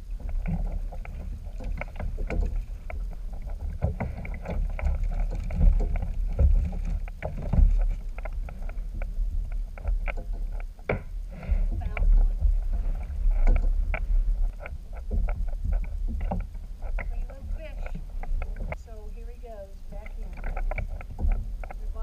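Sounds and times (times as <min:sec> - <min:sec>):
water slapping hull: 0:00.0 - 0:22.0
wind rumble on microphone: 0:00.0 - 0:22.0
clicks and knocks: 0:00.2 - 0:18.8.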